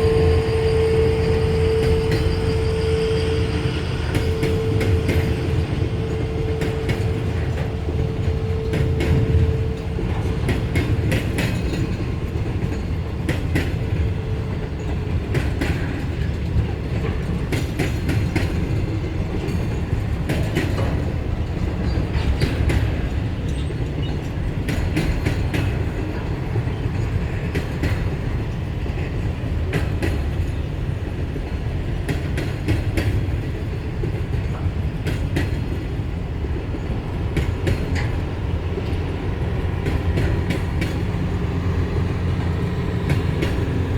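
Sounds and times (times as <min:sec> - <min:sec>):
freight train rumbling: 0:00.0 - 0:43.9
wheels clacking over rail joints: 0:00.0 - 0:43.9.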